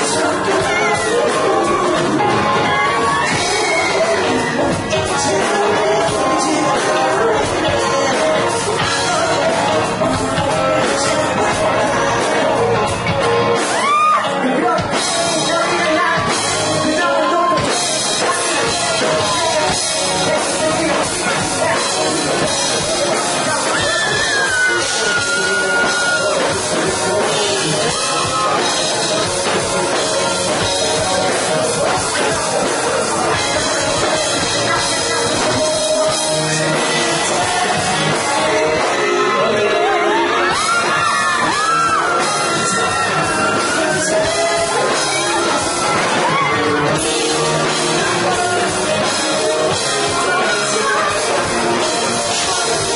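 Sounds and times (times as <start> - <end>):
live rock band: 0.0 - 52.9
man singing: 0.0 - 52.9.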